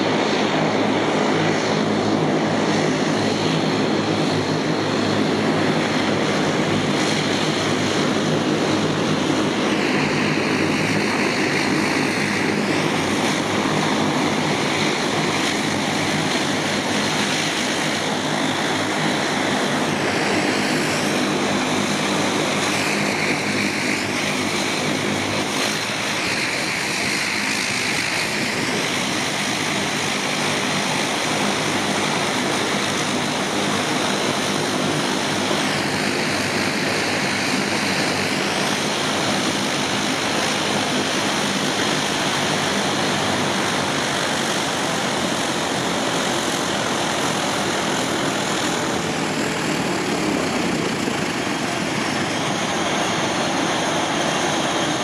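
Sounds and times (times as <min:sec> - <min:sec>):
high turbine whine: 0:00.0 - 0:55.0
turboprop engines droning: 0:00.0 - 0:55.0.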